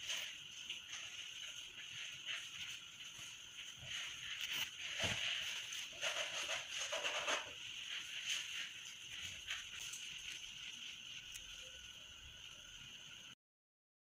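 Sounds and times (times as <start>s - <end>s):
fabric and thread rustling: 0.0s - 12.0s.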